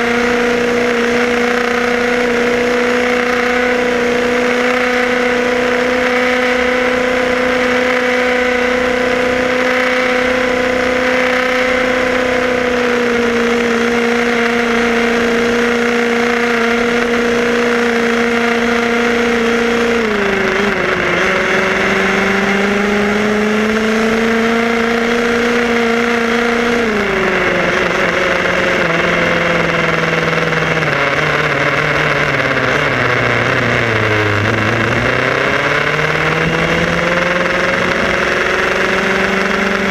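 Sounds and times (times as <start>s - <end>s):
electric motor and gears whining: 0.0s - 39.9s
road noise: 0.0s - 39.9s.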